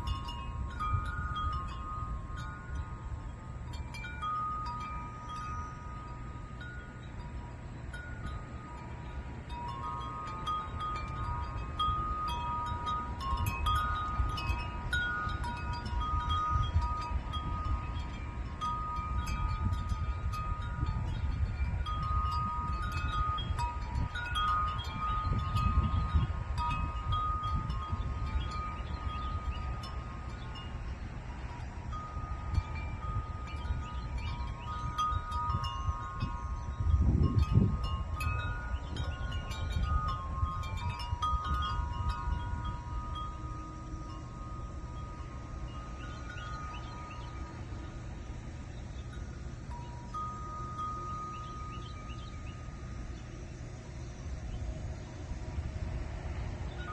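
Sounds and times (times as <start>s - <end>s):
low rumble of wind: 0.0s - 56.9s
wind chimes ringing: 0.0s - 56.9s.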